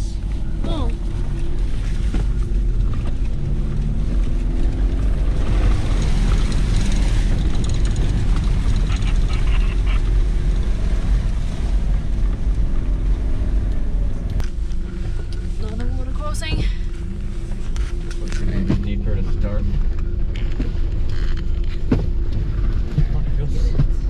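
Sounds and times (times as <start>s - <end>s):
car engine running: 0.0s - 24.0s
water splashing around vehicle: 0.2s - 24.0s.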